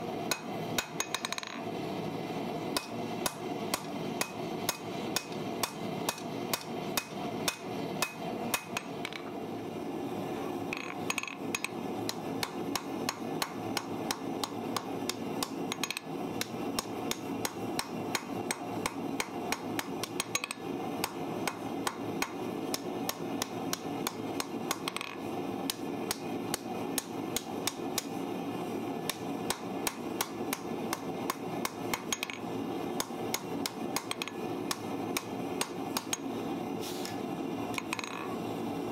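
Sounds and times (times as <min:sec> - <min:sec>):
hammer striking hot steel on anvil: 0:00.3 - 0:01.6, 0:02.7 - 0:09.2, 0:10.8 - 0:28.2, 0:29.1 - 0:32.4, 0:33.0 - 0:36.3.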